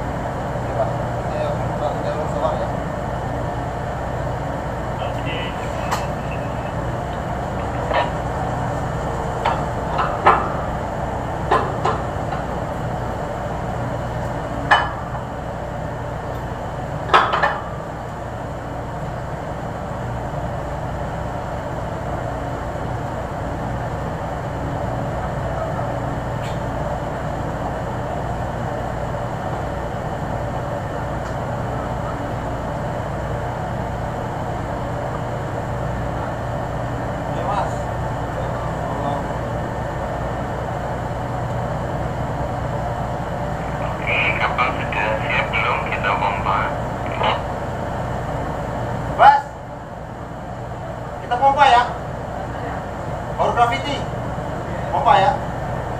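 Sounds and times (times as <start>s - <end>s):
low hum and noise: 0.0s - 55.9s.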